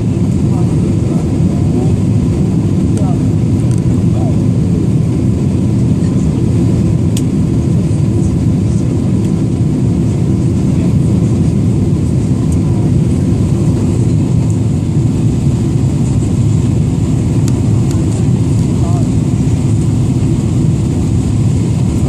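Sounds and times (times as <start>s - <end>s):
airplane cabin engine noise: 0.0s - 22.0s.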